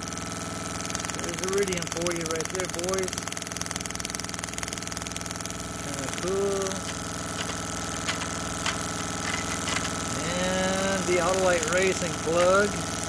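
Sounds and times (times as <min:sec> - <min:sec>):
high-voltage sparks crackling: 0:00.8 - 0:13.0.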